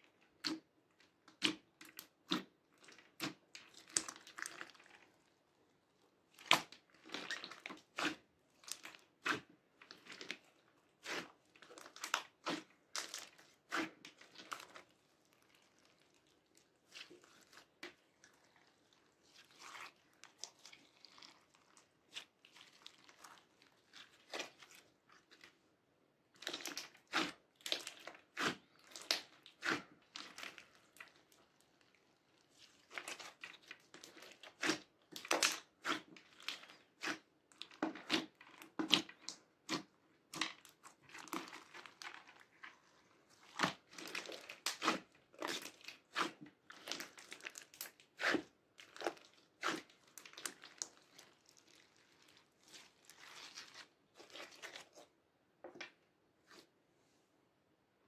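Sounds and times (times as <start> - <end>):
slime squelching with bead crunches: 0.0 - 55.2.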